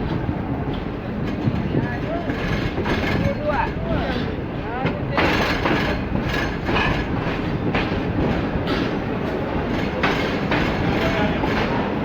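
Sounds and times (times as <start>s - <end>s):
train coaches rumbling past: 0.0s - 12.0s
wheels clacking over rail joints: 0.0s - 12.0s.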